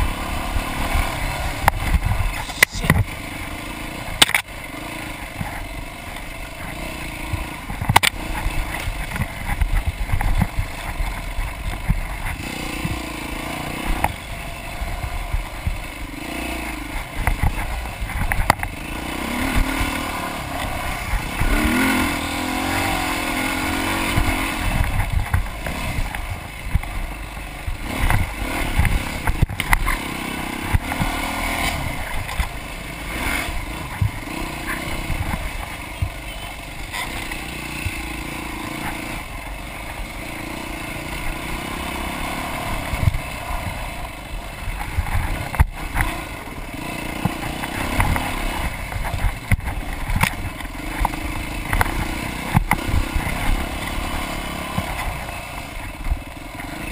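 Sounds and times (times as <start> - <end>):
dirt bike engine revving: 0.0 - 56.9
knocks and rattles over bumps: 3.8 - 56.9.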